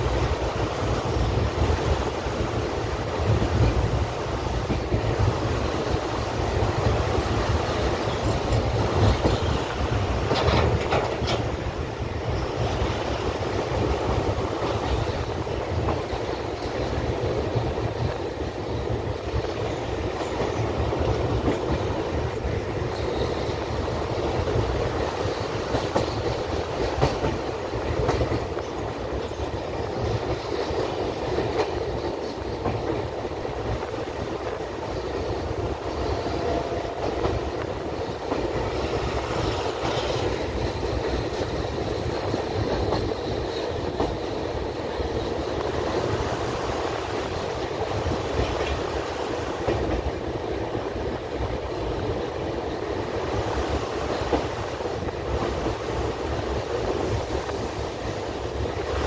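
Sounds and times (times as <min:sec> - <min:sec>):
train wheels rumbling on rails: 0:00.0 - 0:59.0
clacks over rail joints: 0:02.6 - 0:59.0.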